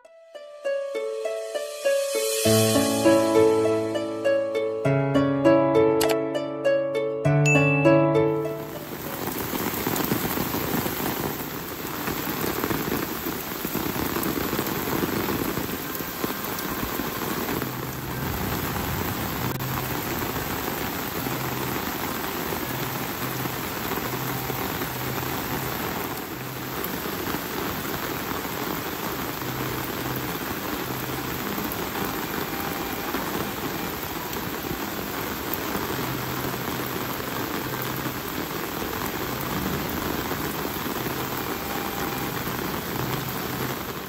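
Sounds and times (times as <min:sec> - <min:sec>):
steady rain falling: 0:00.9 - 0:05.4, 0:07.5 - 0:44.0.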